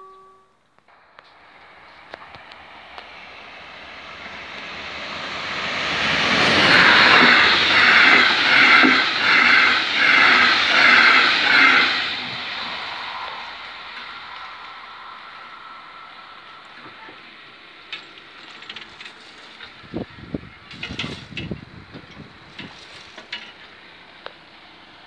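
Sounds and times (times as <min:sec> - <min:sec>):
passenger train passing: 0:00.0 - 0:25.0.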